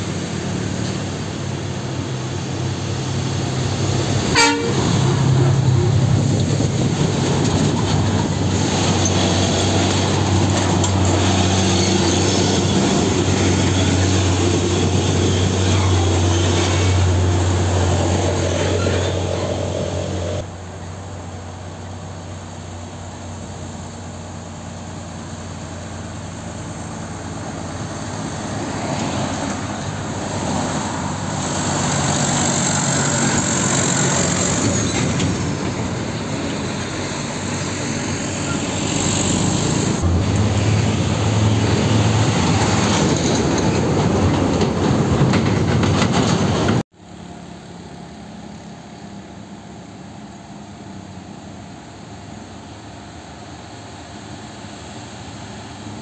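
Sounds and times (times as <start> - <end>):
diesel trucks passing: 0.0 - 56.0
distant truck engines: 0.0 - 56.0.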